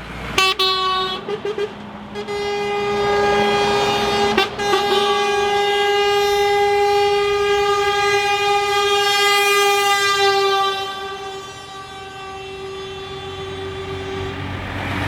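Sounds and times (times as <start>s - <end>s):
truck air horn blast: 0.4s - 15.0s.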